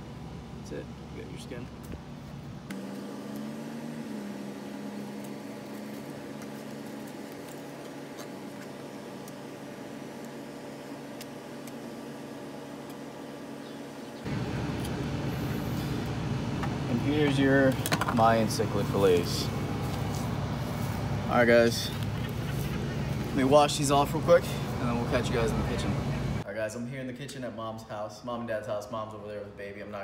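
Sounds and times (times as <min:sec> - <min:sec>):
low mechanical motor hum: 0:00.0 - 0:26.5.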